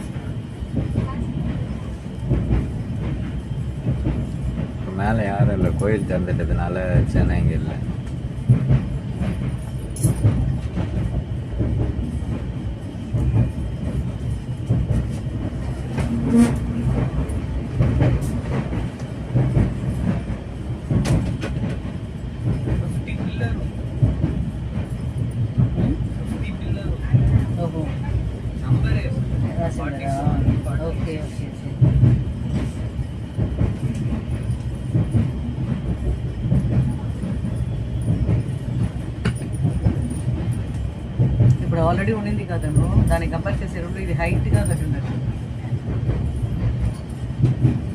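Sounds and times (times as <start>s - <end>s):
train running gear rumble: 0.0s - 47.9s.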